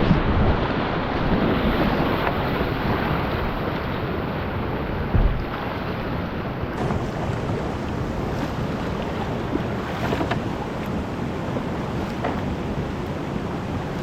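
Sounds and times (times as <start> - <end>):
whitewater rushing: 0.0 - 14.0
wind noise on microphone: 0.0 - 14.0.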